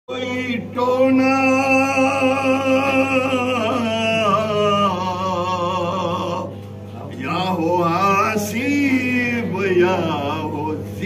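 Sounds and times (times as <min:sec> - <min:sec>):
man singing a chant: 0:00.1 - 0:06.6, 0:07.2 - 0:11.0.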